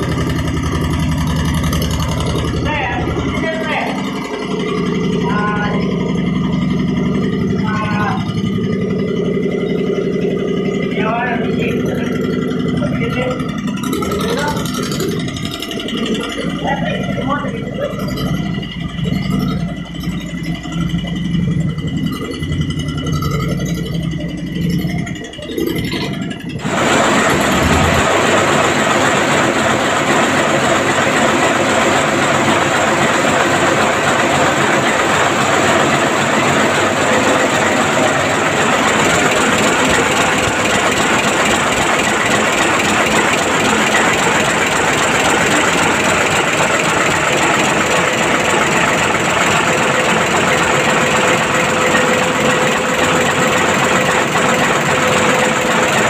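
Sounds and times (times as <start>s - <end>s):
large diesel engine running: 0.0s - 56.0s.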